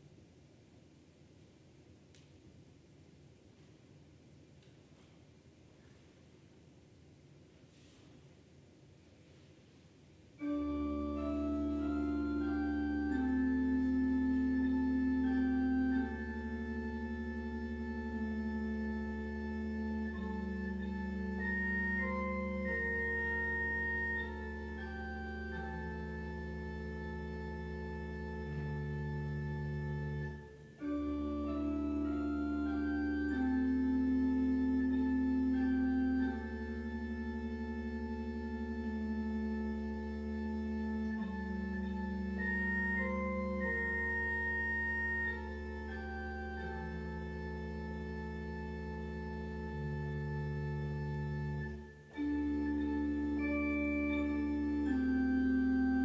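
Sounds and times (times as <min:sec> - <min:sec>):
church organ playing chords: 0:10.4 - 0:56.0.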